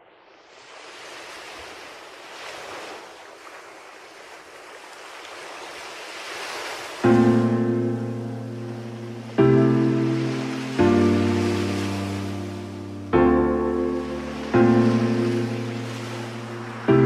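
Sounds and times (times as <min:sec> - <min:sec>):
rushing surf-like noise: 0:00.0 - 0:03.5, 0:06.1 - 0:17.0.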